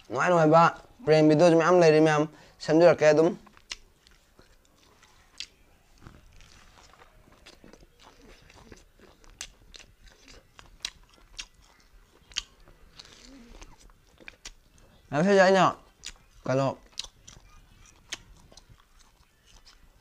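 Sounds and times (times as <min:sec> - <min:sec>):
soft wet chewing: 0:03.3 - 0:20.0.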